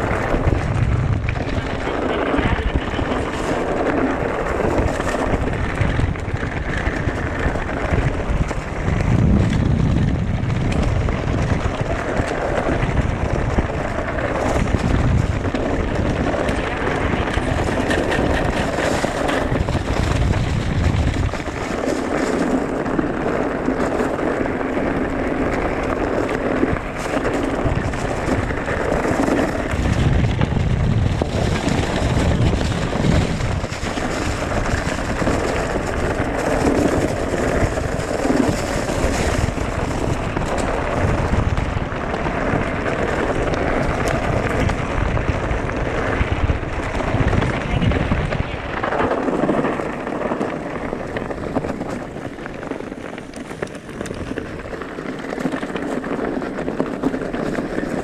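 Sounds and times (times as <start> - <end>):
bike tyre and rattle noise: 0.0 - 58.0
wind buffeting microphone: 0.0 - 58.0.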